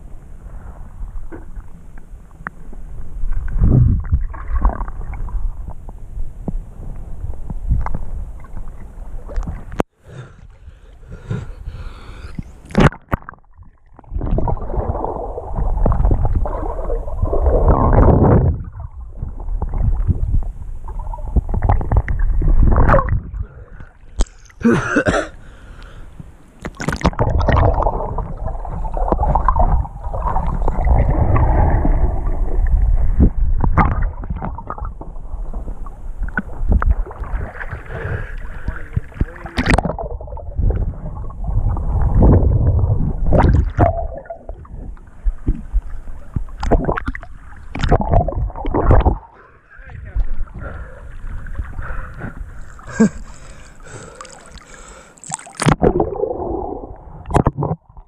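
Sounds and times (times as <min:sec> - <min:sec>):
underwater rumbling and gurgling: 0:00.0 - 0:24.6, 0:25.5 - 0:58.0.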